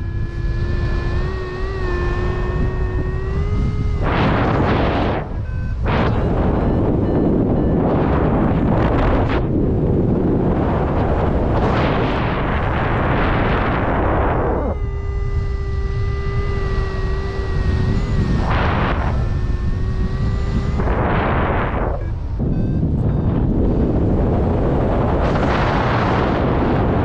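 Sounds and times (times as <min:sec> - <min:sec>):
steady pitched tone: 0:00.0 - 0:27.0
wind buffeting microphone: 0:00.0 - 0:27.0.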